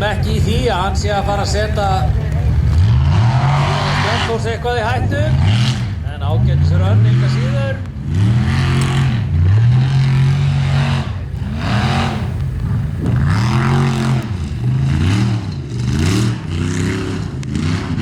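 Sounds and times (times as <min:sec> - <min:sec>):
buggy engine revving hard: 0:00.0 - 0:18.0.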